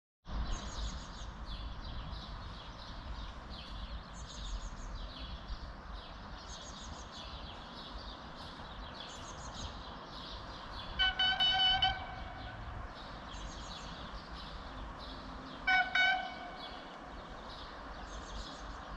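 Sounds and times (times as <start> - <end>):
small birds chirping: 0.3 - 18.9.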